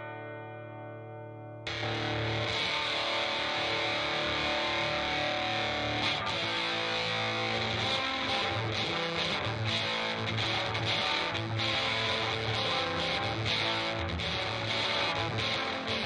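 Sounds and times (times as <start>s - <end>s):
distorted fuzz electric guitar: 1.6s - 16.0s.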